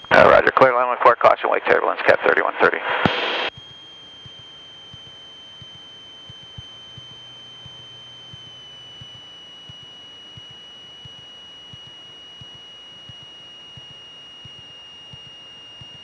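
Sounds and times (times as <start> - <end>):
high-pitched electrical whine: 0.0 - 16.0.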